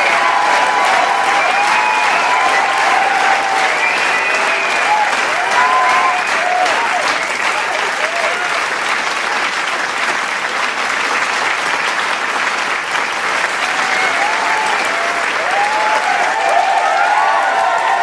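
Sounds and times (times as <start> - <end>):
large crowd applauding: 0.0 - 18.0
people cheering: 0.0 - 18.0.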